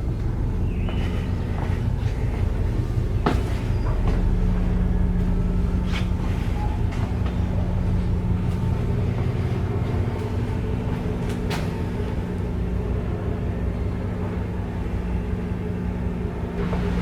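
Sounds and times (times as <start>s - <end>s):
heavy machinery drone: 0.0s - 17.0s.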